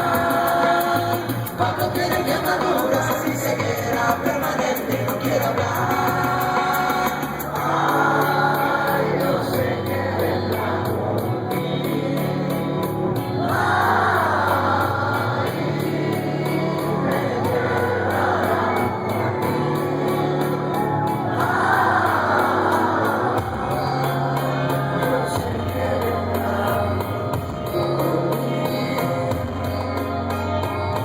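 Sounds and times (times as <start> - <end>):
person singing wordless phrases: 0.0 - 29.7
bass notes: 0.0 - 31.0
live rock band playing: 0.0 - 31.0.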